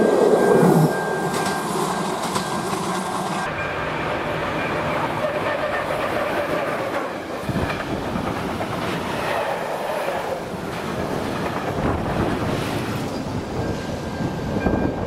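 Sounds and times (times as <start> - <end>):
freight train passing at speed: 0.0 - 15.0.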